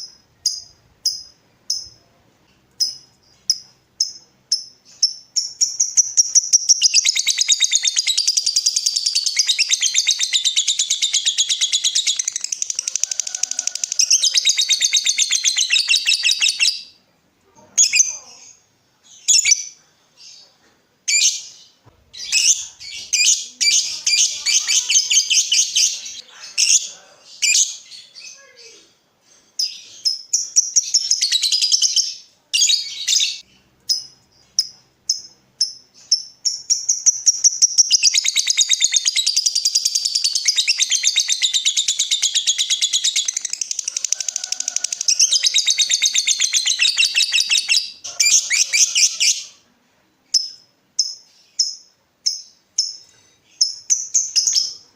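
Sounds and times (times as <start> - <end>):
lovebird chirping and trilling: 0.0 - 2.0, 2.8 - 17.0, 17.8 - 20.4, 21.1 - 28.5, 29.6 - 49.6, 50.3 - 54.8.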